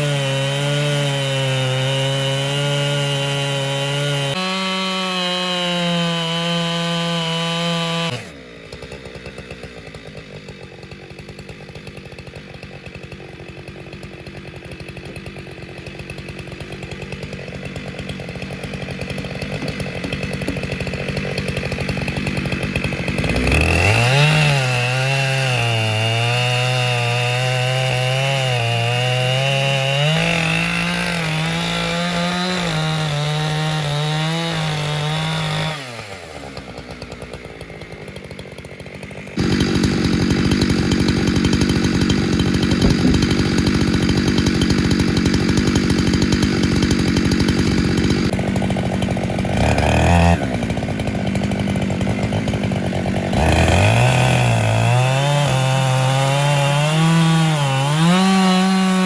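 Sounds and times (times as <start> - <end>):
chainsaw revving and idling: 0.0 - 59.0.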